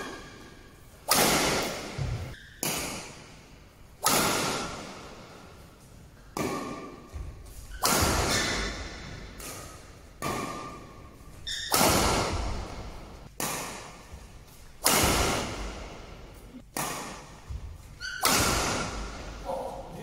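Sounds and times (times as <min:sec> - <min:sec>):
rackets striking shuttlecock: 0:00.0 - 0:05.6, 0:06.3 - 0:19.7.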